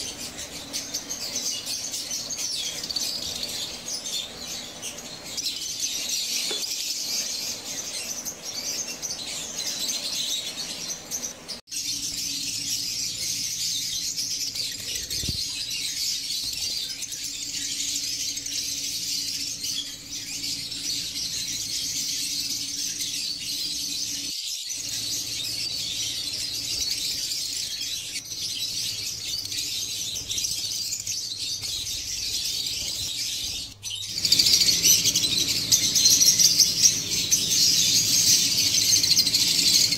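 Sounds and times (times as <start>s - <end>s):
birds chirping and squeaking: 0.0s - 39.9s.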